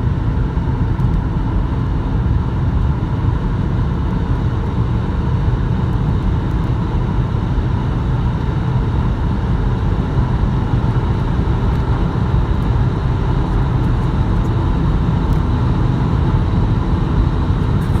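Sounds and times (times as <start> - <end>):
diesel car engine driving: 0.0 - 18.0
road noise: 0.0 - 18.0.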